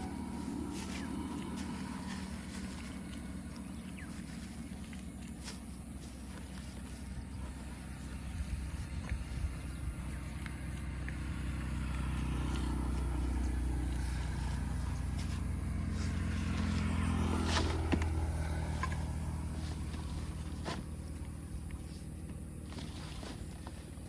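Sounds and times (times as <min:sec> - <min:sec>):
motor engine passing by: 0:00.0 - 0:24.0.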